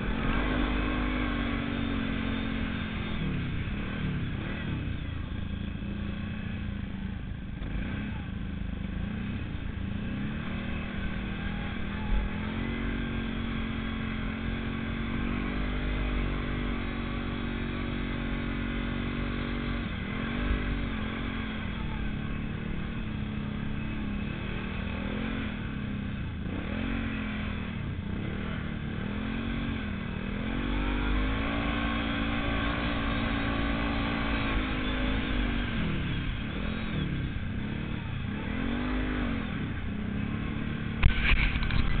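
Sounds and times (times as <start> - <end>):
atv engine revving: 0.0 - 42.0.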